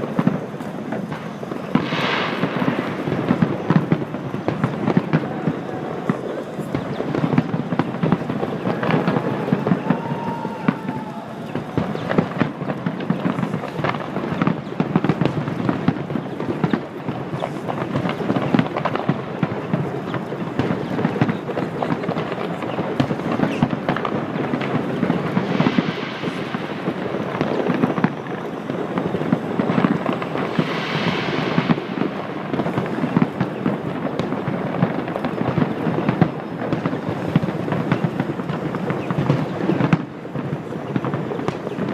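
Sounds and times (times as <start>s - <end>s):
fireworks bangs and crackles: 0.0s - 41.9s
fireworks hissing: 0.0s - 41.9s.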